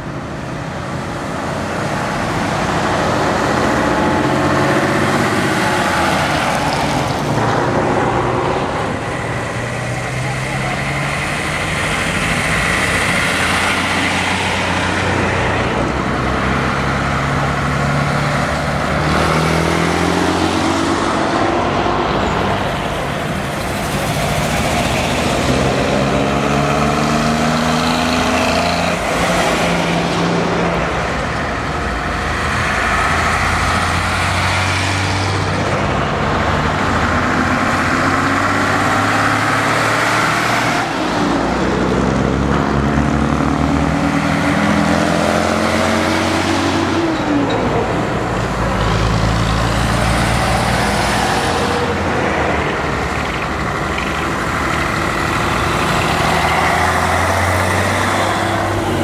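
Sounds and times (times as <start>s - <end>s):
truck engines shifting gears: 0.0s - 59.0s
trucks driving past: 0.0s - 59.0s.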